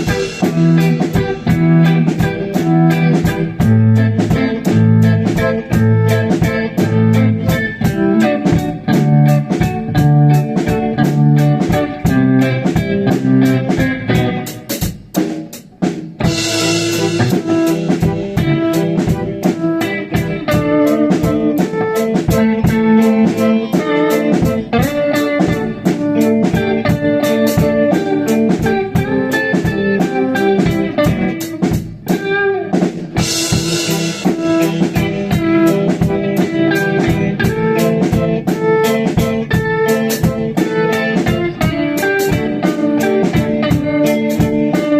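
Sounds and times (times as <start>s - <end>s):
rock band playing: 0.0s - 44.9s.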